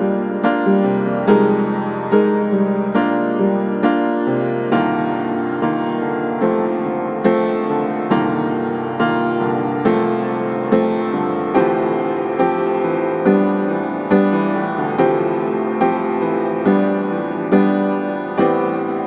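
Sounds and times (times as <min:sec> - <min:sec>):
keyboard chords: 0:00.0 - 0:19.0.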